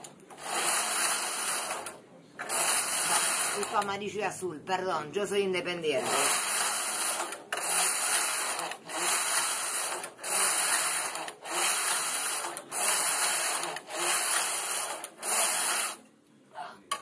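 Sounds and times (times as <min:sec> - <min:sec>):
knitting machine carriage sliding: 0:00.0 - 0:03.9, 0:06.0 - 0:16.0.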